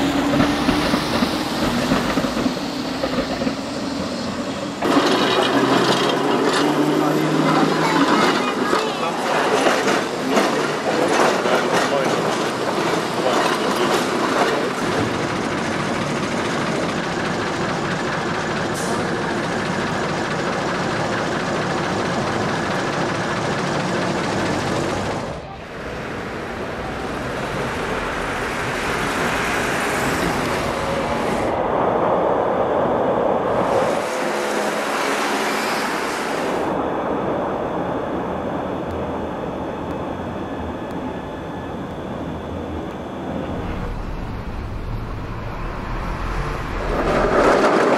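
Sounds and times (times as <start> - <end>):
electric tram running on track: 0.0 - 47.9
road traffic: 0.0 - 47.9.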